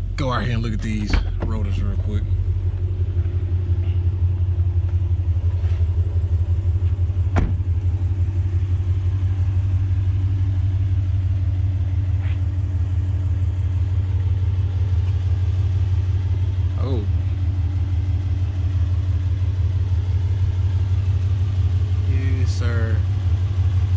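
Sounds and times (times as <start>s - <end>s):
engine idling with deep rumble: 0.0s - 23.9s.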